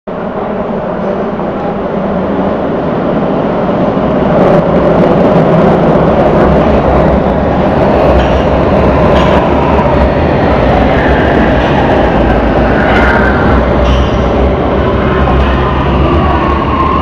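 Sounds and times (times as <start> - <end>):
metro train wheels rumbling: 0.1 - 17.0.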